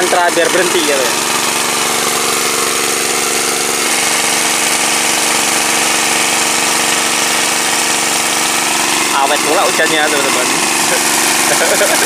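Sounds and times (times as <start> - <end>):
water pump engine running: 0.0 - 12.0.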